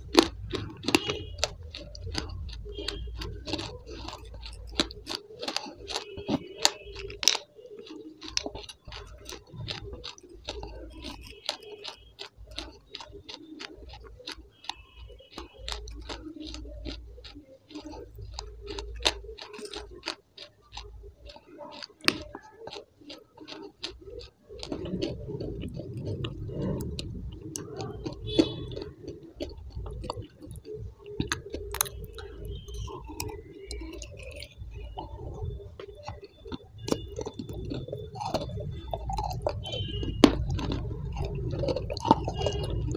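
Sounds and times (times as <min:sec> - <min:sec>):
crunching and chewing: 0:00.0 - 0:42.9.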